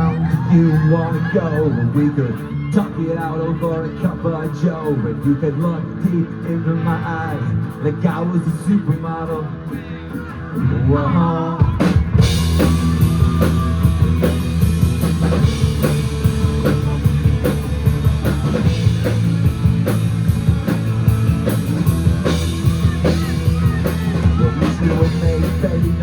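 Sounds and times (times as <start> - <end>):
rock band playing: 0.0 - 10.9, 11.6 - 26.0.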